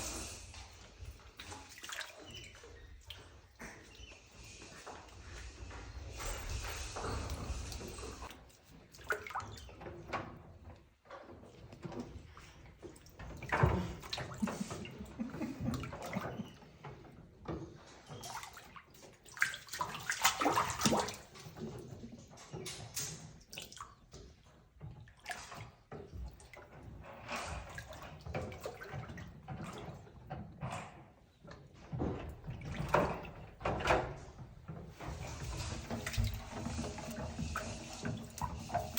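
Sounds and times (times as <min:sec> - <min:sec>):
water splashing in bathtub: 0:00.0 - 0:38.9.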